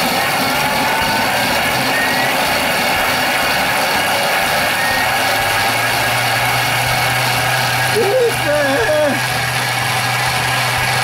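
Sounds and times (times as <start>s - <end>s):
food processor motor whir: 0.0s - 11.0s.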